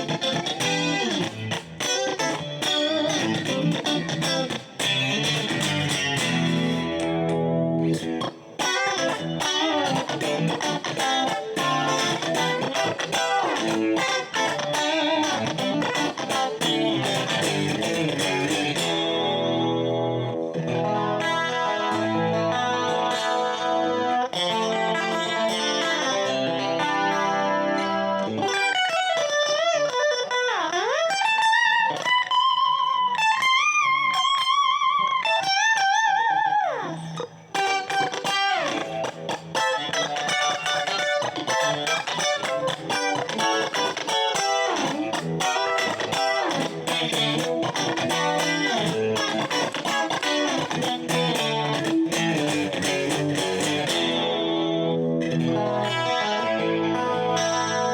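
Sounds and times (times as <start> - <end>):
clean electric guitar playing: 0.0 - 57.9.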